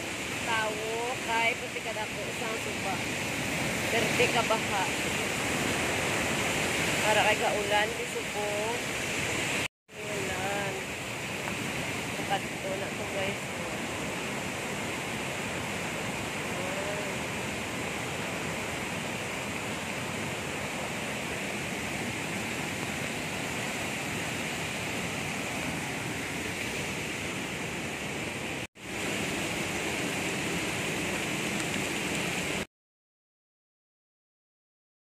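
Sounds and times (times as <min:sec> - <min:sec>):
river rushing over rocks: 0:00.0 - 0:32.7.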